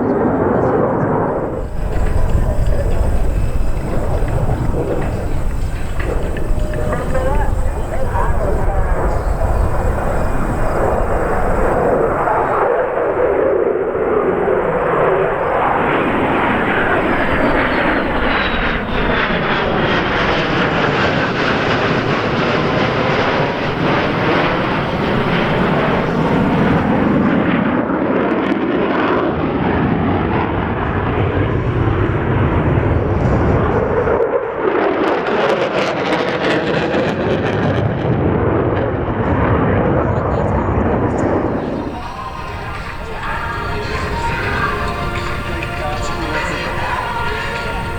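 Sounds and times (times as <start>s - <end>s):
jet engines roaring past: 0.0s - 47.9s.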